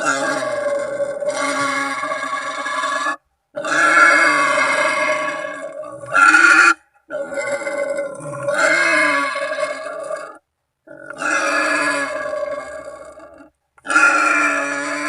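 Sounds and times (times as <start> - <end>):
wild boar squealing: 0.0 - 15.0.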